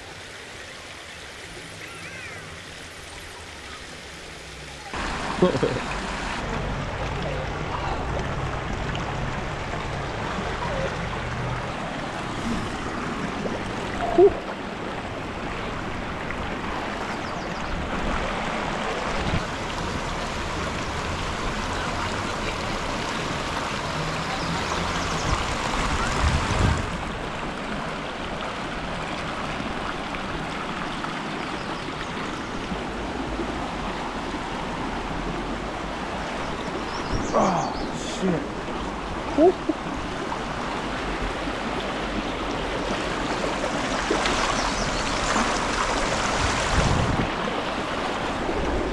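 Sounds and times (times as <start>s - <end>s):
creek water rushing over rocks: 0.0s - 48.9s.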